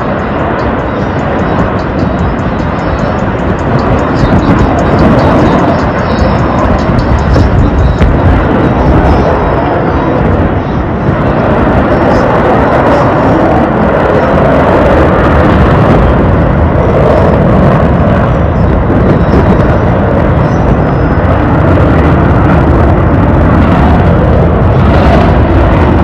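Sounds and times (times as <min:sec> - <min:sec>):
aircraft engine roar: 0:00.0 - 0:26.0.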